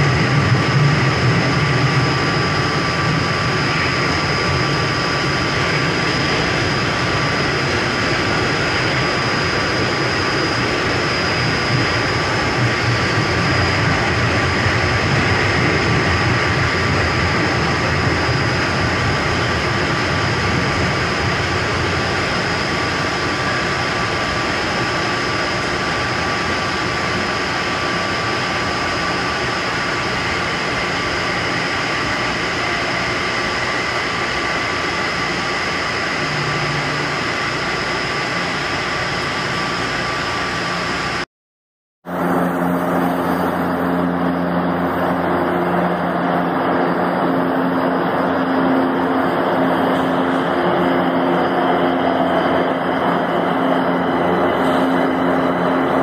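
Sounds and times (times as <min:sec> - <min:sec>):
train wheels rumbling on rail: 0:00.0 - 0:40.9, 0:42.1 - 0:56.0
high whine: 0:00.0 - 0:41.3, 0:42.0 - 0:56.0.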